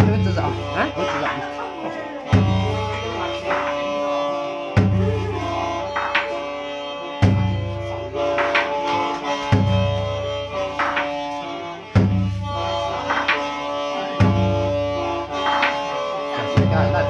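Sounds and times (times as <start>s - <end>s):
mouth organ reed chords: 0.0s - 17.0s.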